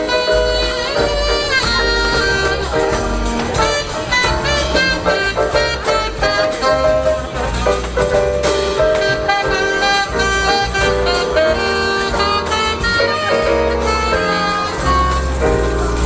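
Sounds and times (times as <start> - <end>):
live jazz combo playing: 0.0 - 16.0
saxophone melody: 0.0 - 16.0.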